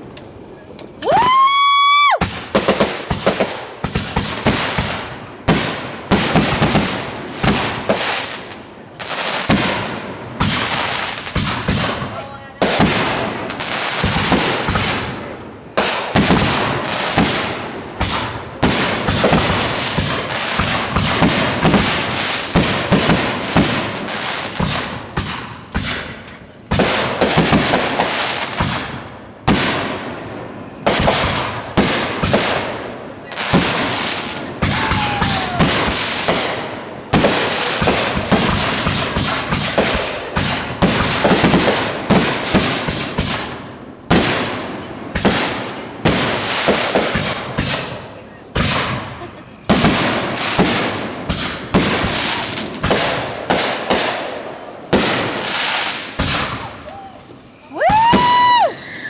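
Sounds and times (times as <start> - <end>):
fireworks banging and crackling: 0.0 - 58.8
loud firework blast: 1.1 - 57.1, 57.8 - 58.8.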